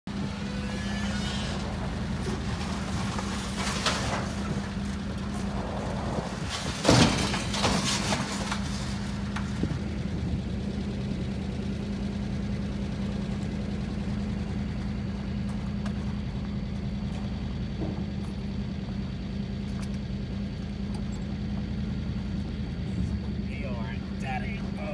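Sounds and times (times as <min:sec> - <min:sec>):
low engine hum: 0:00.0 - 0:24.9.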